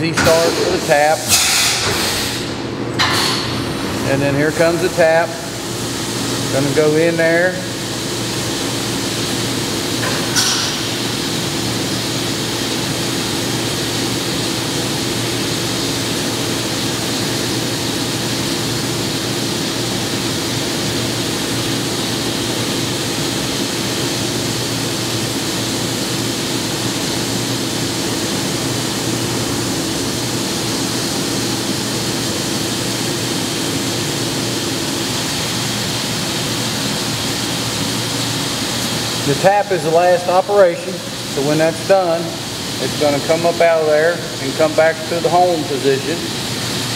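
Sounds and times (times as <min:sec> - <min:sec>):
coolant spray hissing: 0:00.0 - 0:46.9
milling machine humming: 0:00.0 - 0:46.9.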